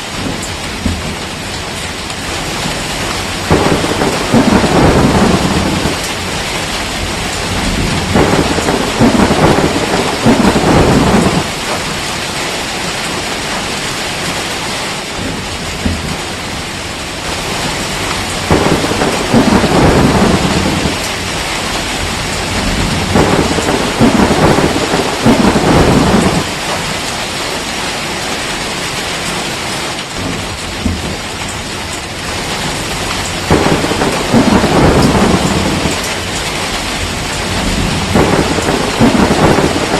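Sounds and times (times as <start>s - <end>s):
thunder rumbling: 0.0s - 14.4s, 15.0s - 27.4s, 30.1s - 39.9s
heavy rain hissing: 0.0s - 39.9s.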